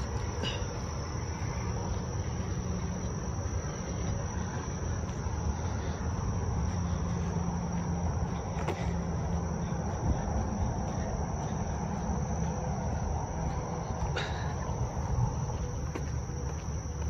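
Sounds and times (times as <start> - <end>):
insects chirping: 0.0 - 17.0
low outdoor rumble: 0.0 - 17.0.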